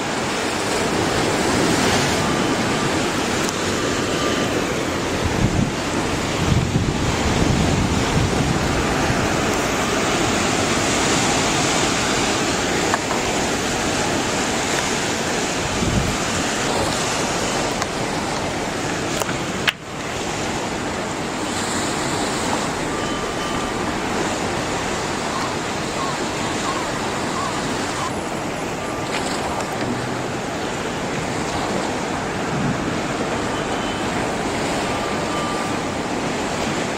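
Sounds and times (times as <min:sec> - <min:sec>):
waves rushing: 0:00.0 - 0:36.9
wind: 0:00.0 - 0:36.9.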